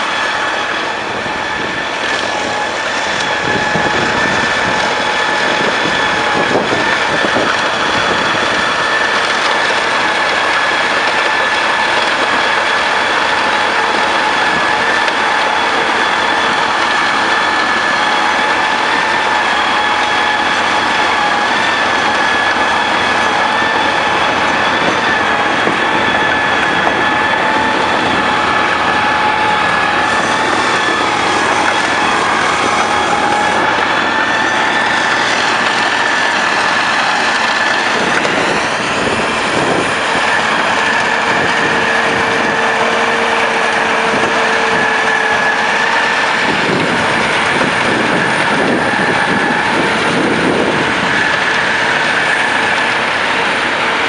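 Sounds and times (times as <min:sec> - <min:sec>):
high-pitched whine: 0:00.0 - 0:54.0
snow blower throwing snow: 0:00.0 - 0:54.0.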